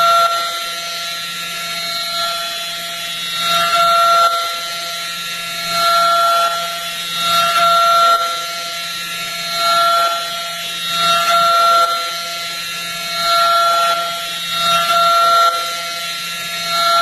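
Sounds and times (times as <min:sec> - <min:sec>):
milling machine spindle whine: 0:00.0 - 0:17.0.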